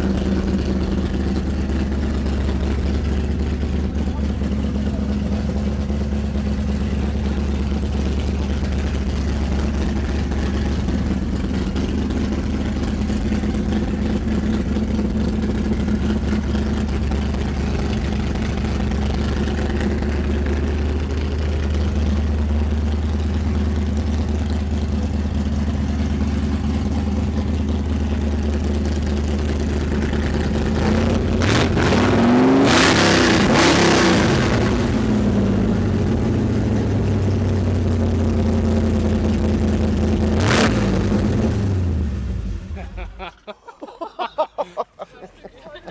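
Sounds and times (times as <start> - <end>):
car engine idling and revving: 0.0 - 43.3.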